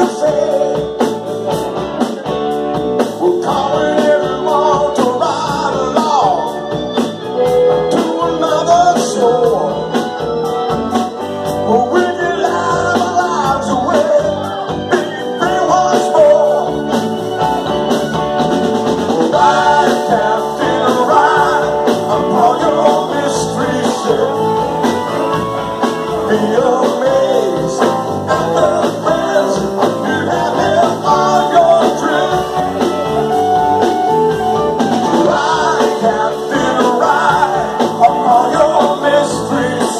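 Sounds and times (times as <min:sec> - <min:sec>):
man singing: 0:00.0 - 0:01.2, 0:03.0 - 0:10.8, 0:11.4 - 0:17.4, 0:19.0 - 0:33.2, 0:35.0 - 0:39.9
drums: 0:00.0 - 0:39.9
electric guitars: 0:00.0 - 0:39.9
keyboard: 0:00.0 - 0:39.9.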